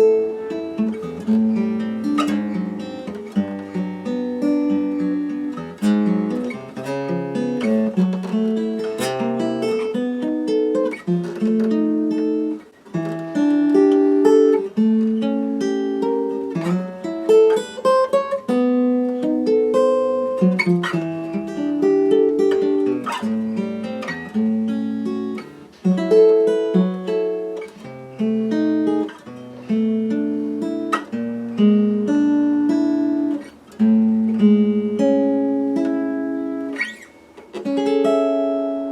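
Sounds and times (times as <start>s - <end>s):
fingerstyle acoustic guitar: 0.0s - 38.9s.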